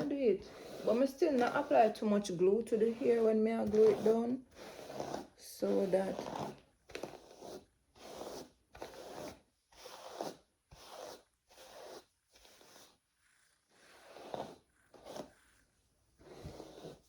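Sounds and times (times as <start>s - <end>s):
rasping strokes on hair: 0.0s - 17.0s.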